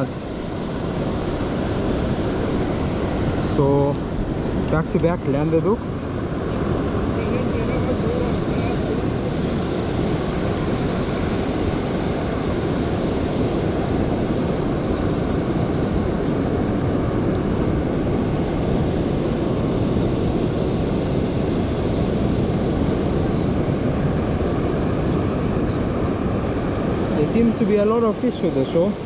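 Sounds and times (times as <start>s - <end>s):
ocean surf breaking: 0.0s - 29.0s
wind on microphone: 0.0s - 29.0s.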